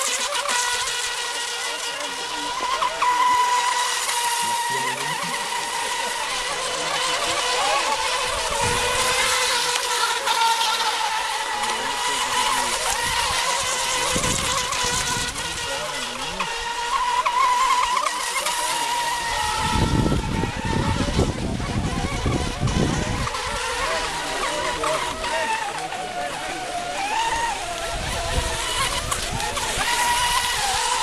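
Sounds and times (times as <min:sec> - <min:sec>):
high-pitched motor whine: 0:00.0 - 0:31.0.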